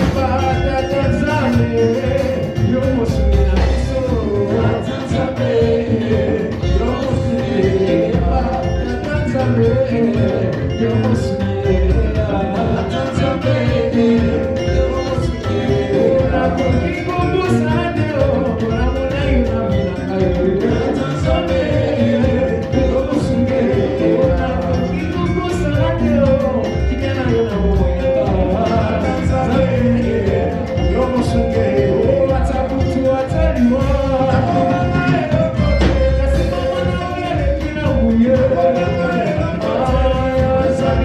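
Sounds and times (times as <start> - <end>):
worship band playing upbeat music: 0.0 - 41.0.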